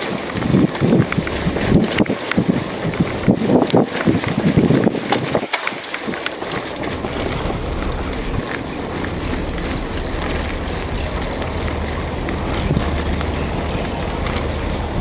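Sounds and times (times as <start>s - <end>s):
bike knocks and rattles: 0.0s - 15.0s
bike rolling over dirt: 0.0s - 15.0s
wind buffeting microphone: 0.0s - 15.0s.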